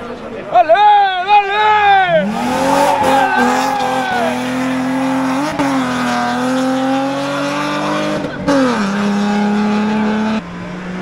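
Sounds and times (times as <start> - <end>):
rally car engine revving: 2.1 - 11.0.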